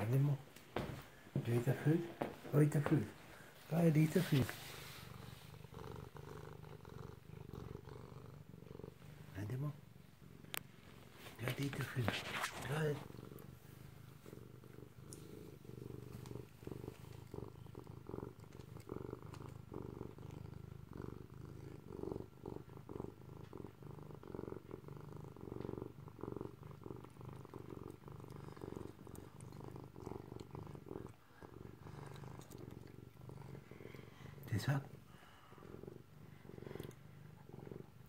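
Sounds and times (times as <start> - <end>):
cat purring: 0.0 - 38.0.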